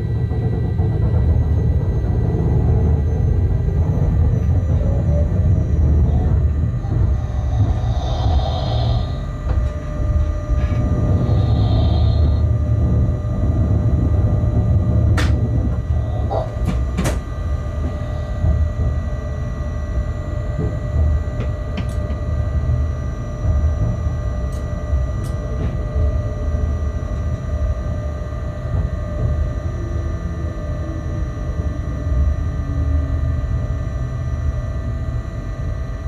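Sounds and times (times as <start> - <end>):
constant hum: 0.0 - 36.0
locomotive low rumble: 0.0 - 36.0.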